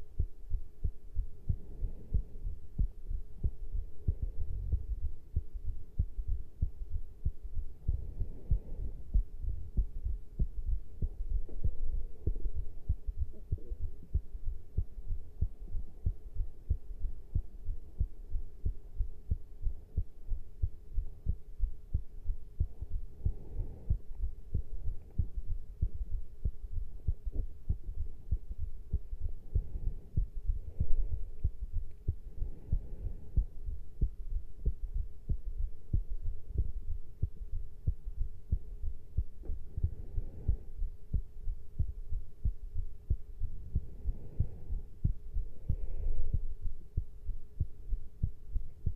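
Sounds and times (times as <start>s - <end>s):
faint hum: 0.0s - 48.9s
heartbeat thumps: 0.0s - 48.9s.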